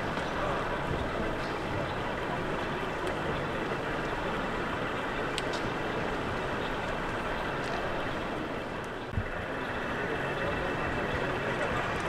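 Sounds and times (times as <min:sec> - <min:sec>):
busy exhibition hall hubbub: 0:00.0 - 0:12.0.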